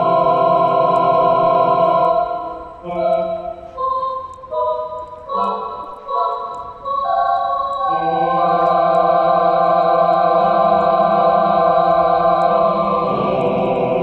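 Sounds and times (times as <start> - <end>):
music of long held chords: 0.0 - 14.0.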